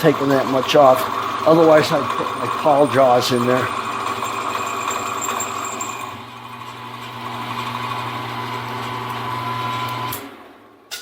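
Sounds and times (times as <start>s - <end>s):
milling machine cutting metal: 0.0s - 10.4s.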